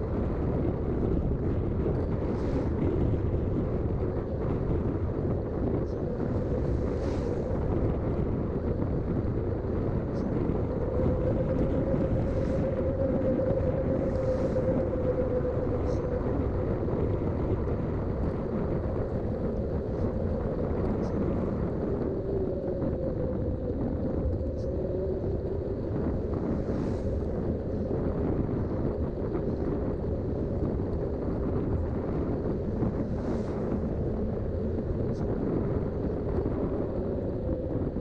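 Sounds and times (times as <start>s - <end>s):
bicycle tyre rumble: 0.0s - 38.0s
hum wavering in pitch: 0.0s - 38.0s
wind rushing on microphone: 0.0s - 38.0s.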